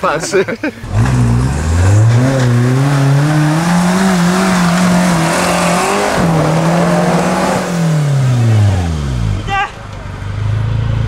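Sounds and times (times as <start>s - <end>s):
off-road vehicle engine revving: 0.8s - 11.0s.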